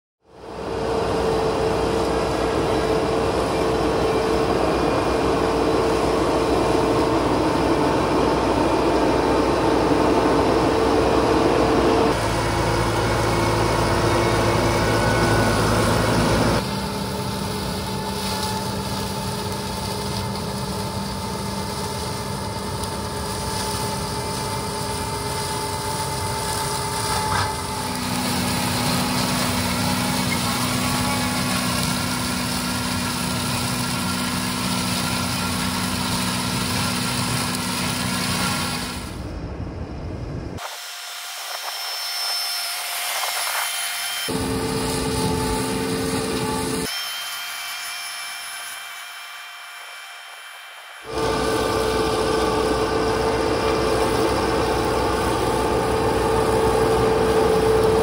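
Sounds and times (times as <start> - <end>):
tractor diesel engine running: 0.2 - 40.4, 44.3 - 46.9, 51.1 - 58.0
flail mulcher shredding grass: 0.3 - 39.4, 40.6 - 47.4, 51.0 - 58.0.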